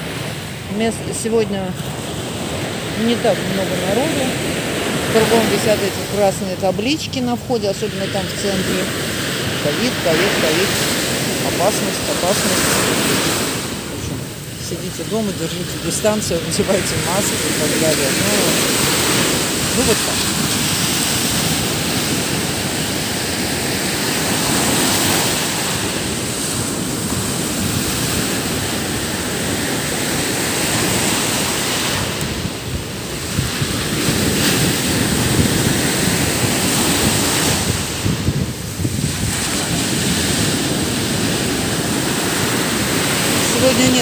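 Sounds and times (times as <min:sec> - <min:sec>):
waves breaking on a beach: 0:00.0 - 0:44.0.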